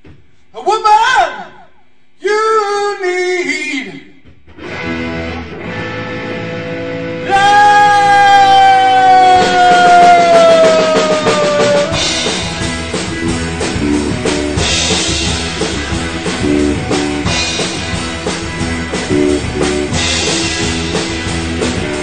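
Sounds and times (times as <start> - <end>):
live rock band playing: 4.3 - 22.0.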